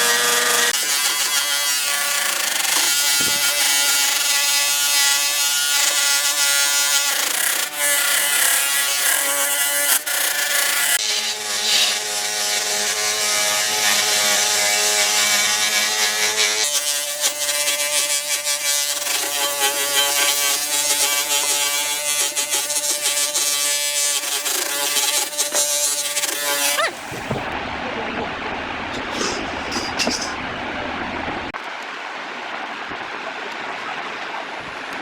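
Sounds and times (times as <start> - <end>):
power tool working wood: 0.0 - 31.6.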